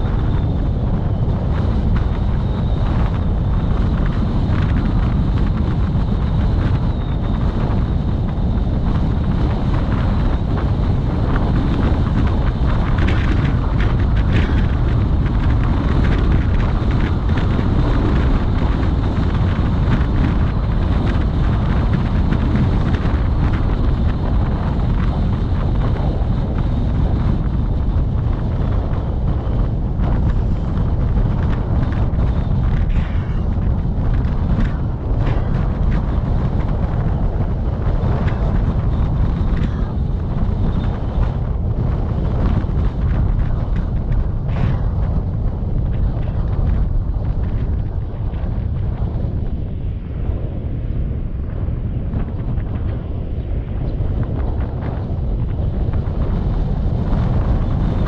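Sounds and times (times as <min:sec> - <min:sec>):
road noise: 0:00.0 - 0:51.3
wind buffeting microphone: 0:00.0 - 0:58.0.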